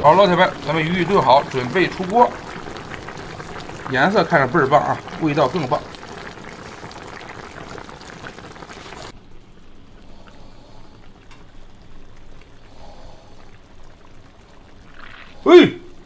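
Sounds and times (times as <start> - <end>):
sauce bubbling in a wok: 0.0 - 16.0.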